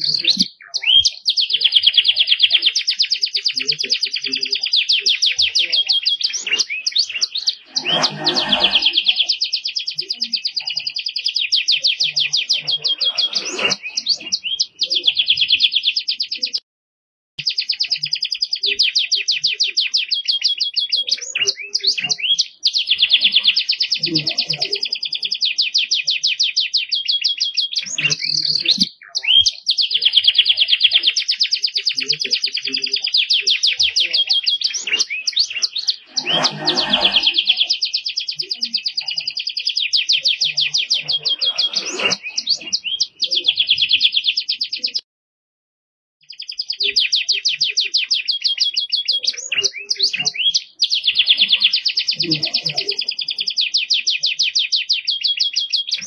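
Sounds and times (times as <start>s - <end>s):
canary trilling song: 0.0s - 16.6s, 17.4s - 45.0s, 46.2s - 56.0s.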